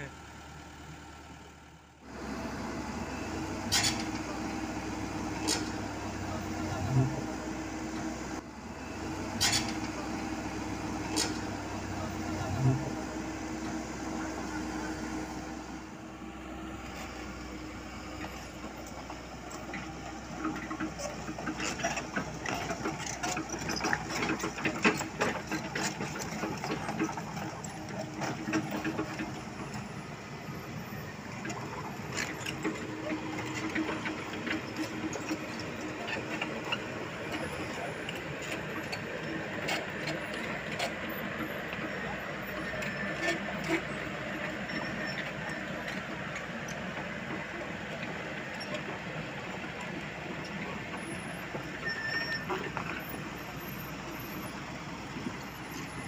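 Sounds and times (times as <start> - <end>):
diesel engines running: 0.0 - 56.0
excavator tracks clattering: 2.1 - 56.0.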